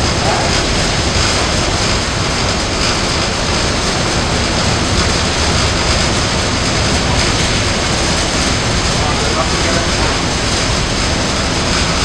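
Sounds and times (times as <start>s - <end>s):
ferry engine drone: 0.0s - 12.0s.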